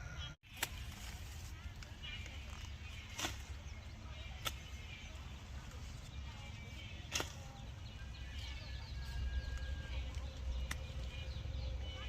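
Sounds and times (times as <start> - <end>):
low steady rumble: 0.0 - 12.0
small birds chirping: 0.0 - 12.0.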